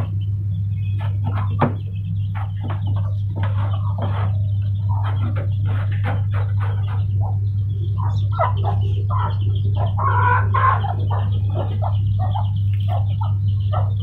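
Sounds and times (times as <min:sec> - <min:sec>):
birds clucking: 0:00.0 - 0:14.0
high chirping: 0:00.0 - 0:14.0
steady low hum: 0:00.0 - 0:14.0.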